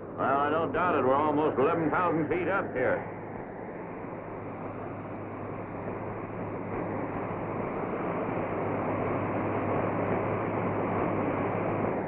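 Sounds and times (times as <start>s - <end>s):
low steady hum: 0.0s - 12.0s
rushing blizzard wind: 0.0s - 12.0s.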